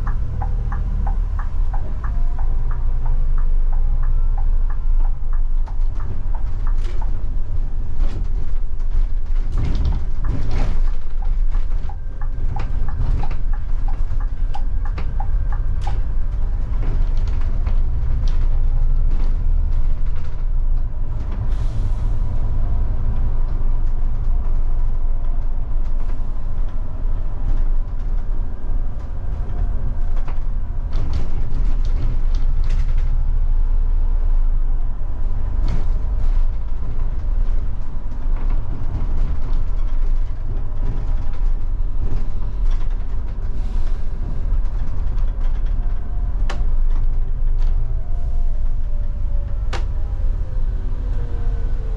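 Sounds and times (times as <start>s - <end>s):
bus body rattling: 0.0s - 51.9s
bus engine rumble: 0.0s - 51.9s.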